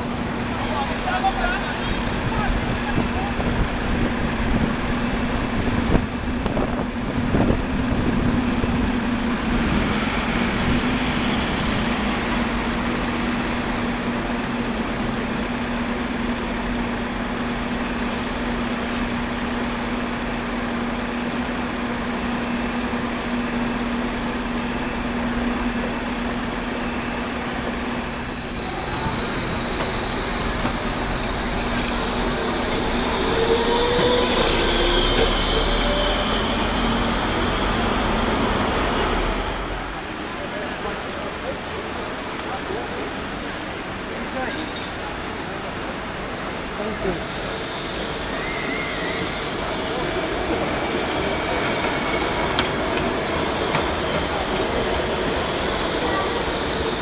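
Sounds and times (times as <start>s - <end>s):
tram wheels squealing: 0.0s - 41.0s, 42.7s - 57.0s
street traffic noise: 0.0s - 57.0s
tram humming: 0.0s - 57.0s.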